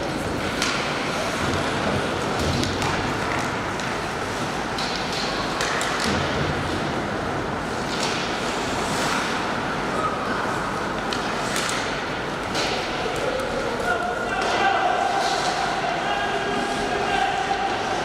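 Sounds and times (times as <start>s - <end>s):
sticks and puck clacking: 0.0s - 7.0s, 7.6s - 10.0s, 10.7s - 18.0s
skates scraping ice: 0.0s - 18.0s.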